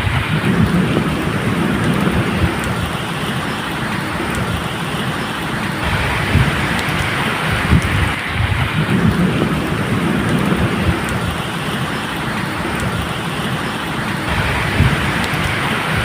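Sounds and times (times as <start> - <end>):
distant thunder rumble: 0.0 - 16.0
medium rain falling: 0.0 - 16.0.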